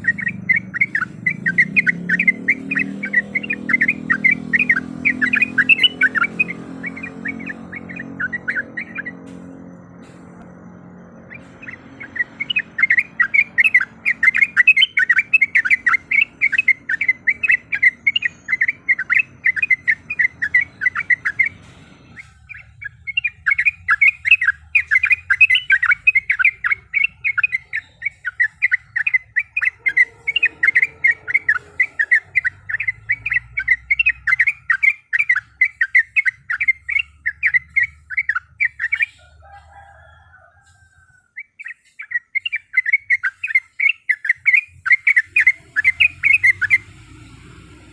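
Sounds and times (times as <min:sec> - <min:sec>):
bird chattering call: 0:00.0 - 0:09.4, 0:11.2 - 0:40.0, 0:40.6 - 0:47.1.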